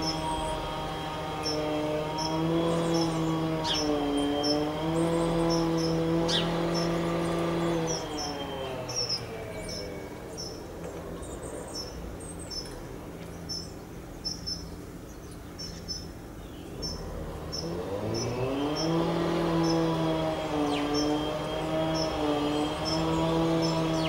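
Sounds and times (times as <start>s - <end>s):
engine humming and revving: 0.0s - 24.0s
small birds chirping: 0.0s - 24.0s.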